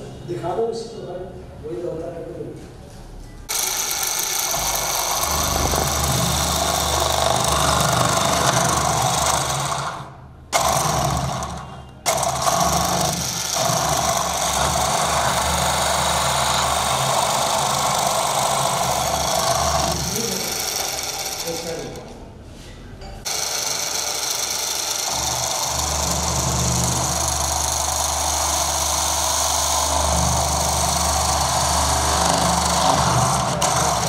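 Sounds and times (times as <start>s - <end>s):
drill motor boring plastic: 3.5s - 22.2s, 23.3s - 34.0s.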